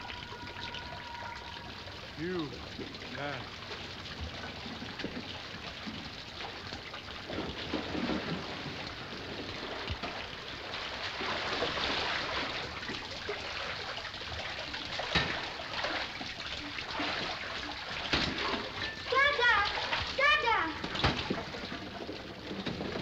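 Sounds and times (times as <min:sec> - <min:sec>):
water splashing as people wade: 0:00.0 - 0:23.0.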